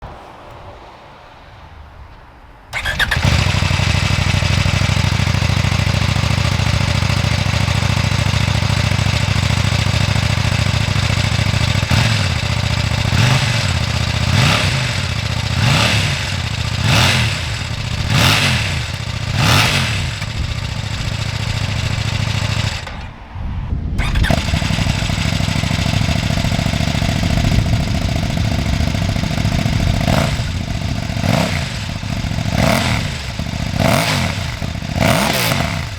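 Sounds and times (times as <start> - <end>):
engine revving in throttle blips: 2.7 - 23.1, 24.0 - 35.9
motorcycle engine idling: 2.7 - 23.1, 24.0 - 35.9
motorcycle engine starting: 2.7 - 23.3, 24.0 - 35.9.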